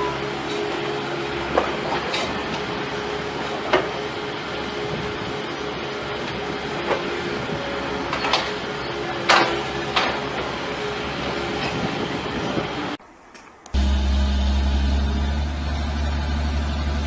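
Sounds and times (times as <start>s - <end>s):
heavy machine running: 0.0s - 13.0s, 13.7s - 17.0s.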